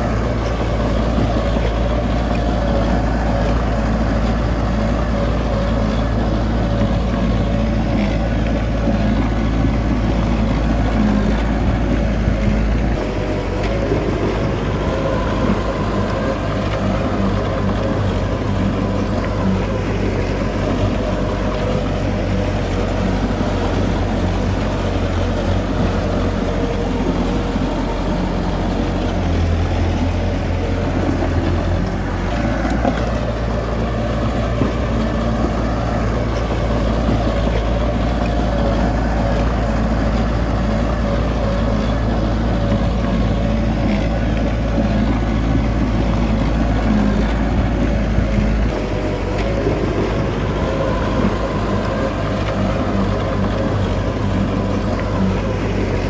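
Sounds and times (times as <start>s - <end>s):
diesel machinery engine rumble: 0.0s - 56.0s.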